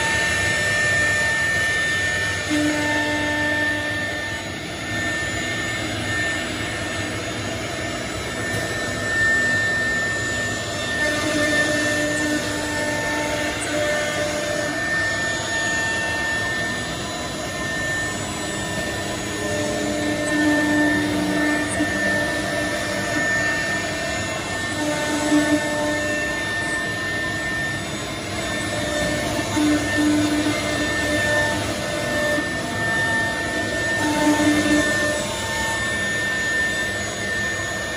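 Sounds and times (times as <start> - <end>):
router cutting wood: 0.0 - 37.9
vacuum pump running: 0.0 - 37.9.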